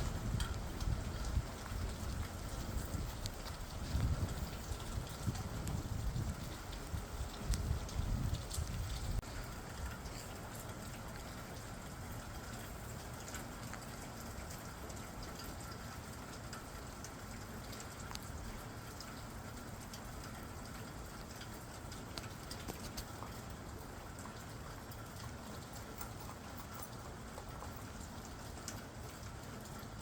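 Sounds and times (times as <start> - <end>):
raindrops clicking on a surface: 0.0 - 30.0
steady rain falling: 0.0 - 30.0.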